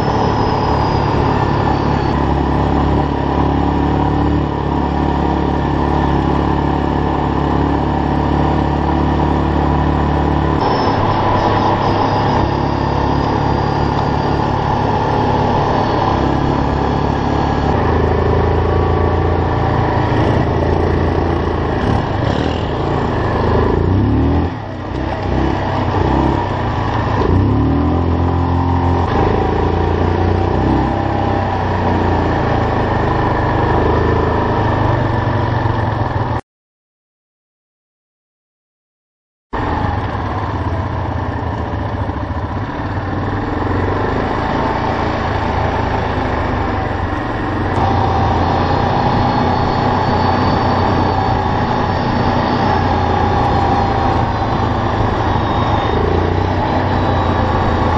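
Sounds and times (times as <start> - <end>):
atv engine revving: 0.0 - 36.4, 39.6 - 57.9.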